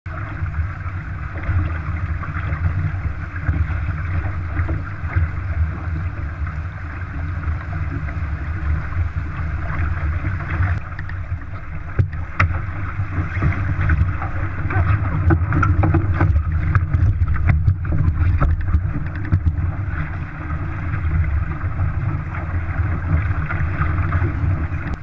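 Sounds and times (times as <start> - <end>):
water rushing past hull: 0.1 - 25.0
wind buffeting microphone: 0.1 - 25.0.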